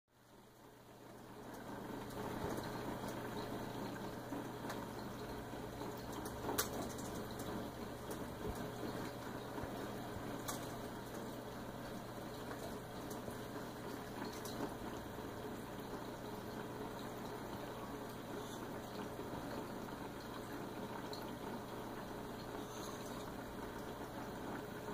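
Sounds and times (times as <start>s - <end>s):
low pump hum: 0.2s - 24.9s
water circulating: 0.5s - 24.9s.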